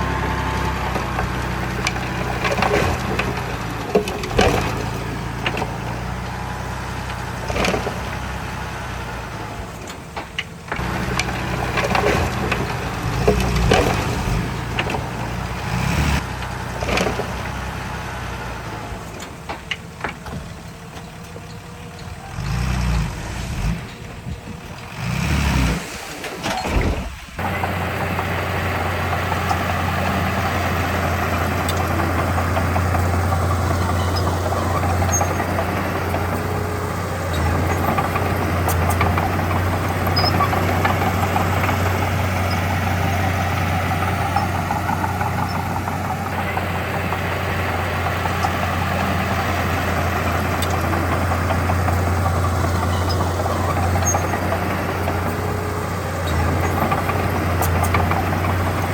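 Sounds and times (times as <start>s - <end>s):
diesel engine low hum: 0.0s - 58.9s.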